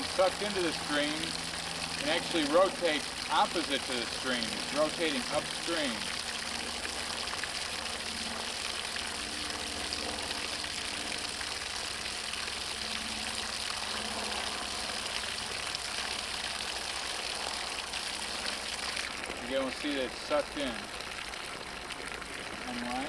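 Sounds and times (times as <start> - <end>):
water gushing from a hose: 0.0 - 23.0.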